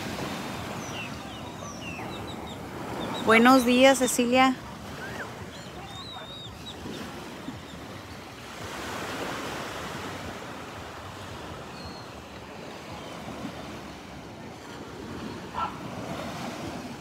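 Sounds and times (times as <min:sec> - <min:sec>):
gentle waves washing onto beach: 0:00.0 - 0:17.0.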